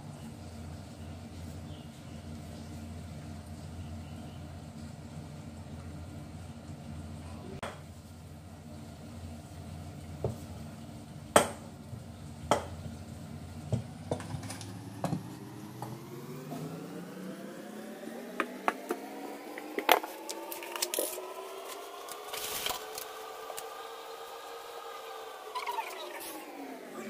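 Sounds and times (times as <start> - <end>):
background hum: 0.0 - 27.0.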